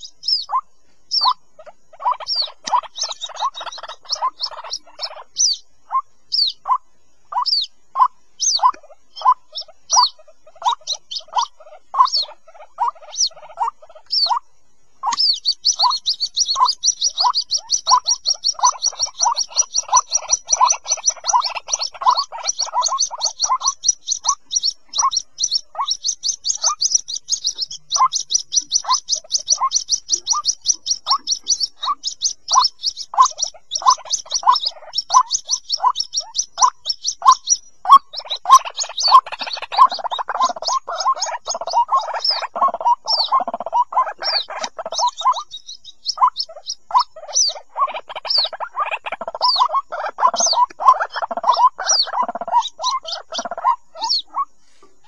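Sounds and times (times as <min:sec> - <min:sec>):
bird chicks calling: 0:00.0 - 0:55.0
high-pitched peeps: 0:00.0 - 0:55.0.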